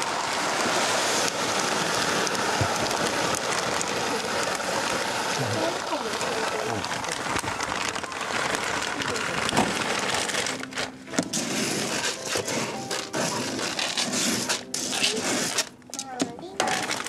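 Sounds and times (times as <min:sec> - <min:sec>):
cat litter crunching: 0:00.0 - 0:17.0.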